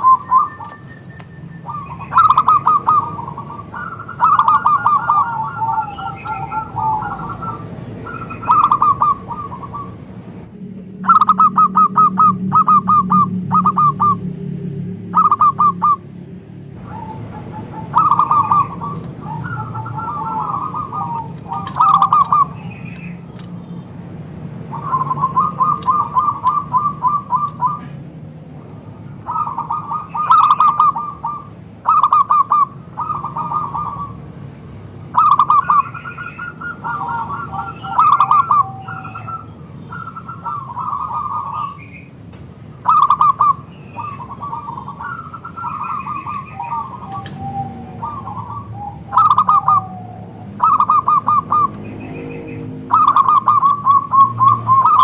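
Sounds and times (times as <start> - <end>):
dove cooing: 0.0 - 24.0, 24.6 - 42.1, 42.7 - 55.0.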